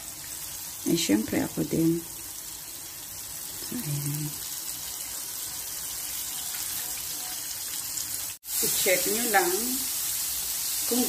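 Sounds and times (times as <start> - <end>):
squid deep-frying in oil: 0.0 - 11.0.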